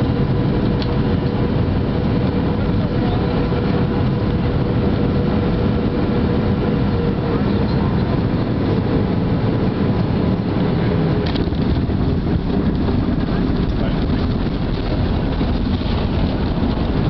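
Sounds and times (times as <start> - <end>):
airliner engines and wheels rumbling: 0.0 - 17.0.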